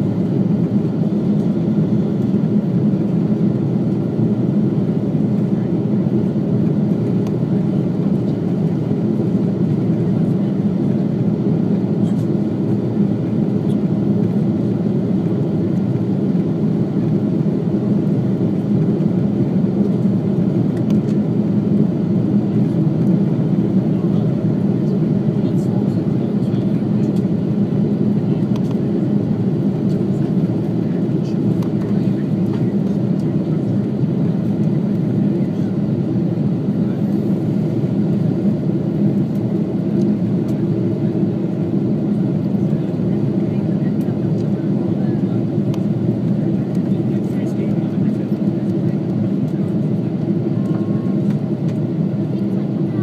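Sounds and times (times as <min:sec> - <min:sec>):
aircraft cabin drone: 0:00.0 - 0:53.0.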